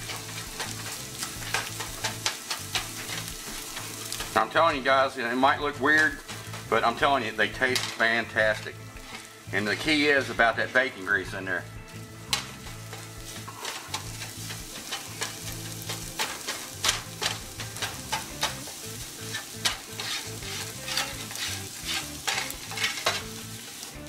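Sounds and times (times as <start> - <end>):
spatula scraping a pan: 0.0 - 4.9, 5.5 - 24.0
eggs sizzling in a pan: 0.0 - 24.0.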